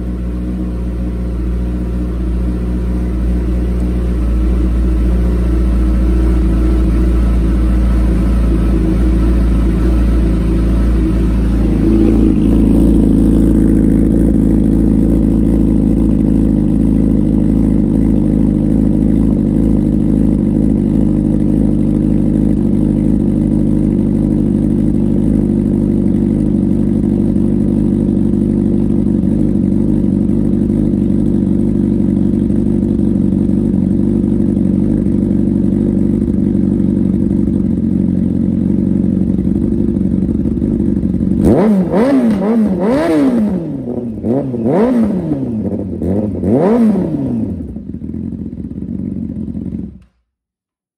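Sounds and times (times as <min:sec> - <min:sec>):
motorcycle engine idling: 0:00.0 - 0:50.2.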